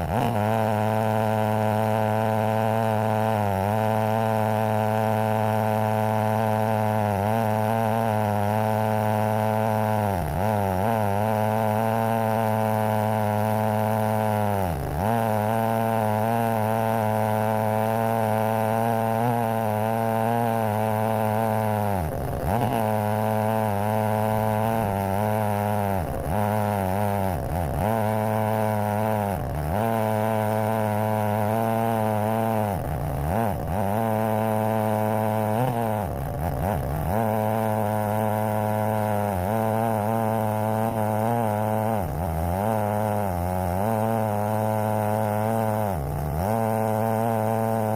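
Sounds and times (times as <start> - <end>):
chainsaw ripping a log: 0.0 - 47.9.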